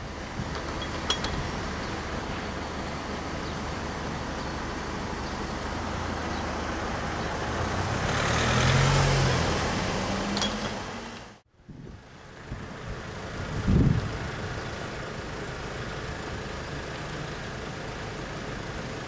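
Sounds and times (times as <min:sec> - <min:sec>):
outdoor traffic rumble: 0:00.0 - 0:19.0.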